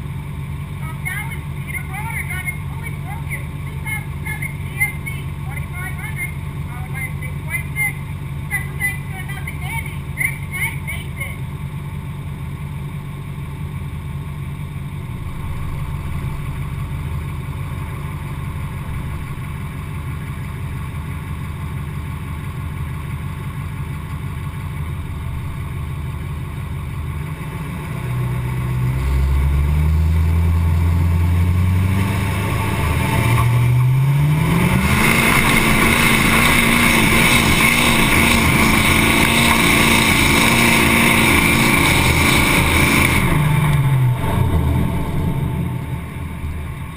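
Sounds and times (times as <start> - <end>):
pickup engine idling and revving: 0.0 - 46.9.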